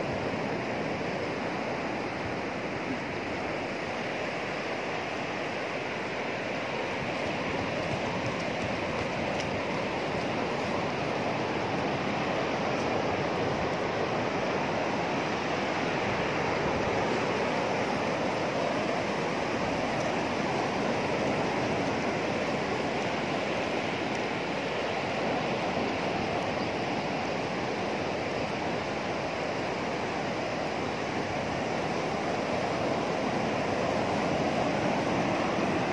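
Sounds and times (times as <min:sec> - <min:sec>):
surf breaking on shore: 0:00.0 - 0:35.9.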